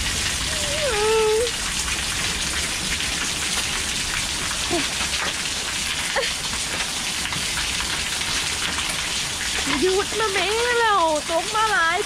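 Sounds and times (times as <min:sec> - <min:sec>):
heavy rain on concrete: 0:00.0 - 0:12.0
runoff splashing onto concrete: 0:00.0 - 0:12.0.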